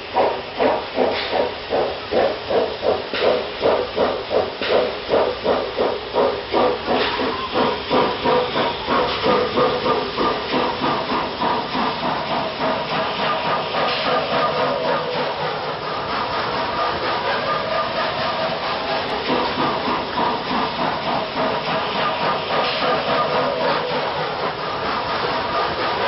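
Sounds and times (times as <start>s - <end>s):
escaping steam hiss: 0.0s - 26.0s
steam locomotive exhaust chuffing: 0.0s - 26.0s.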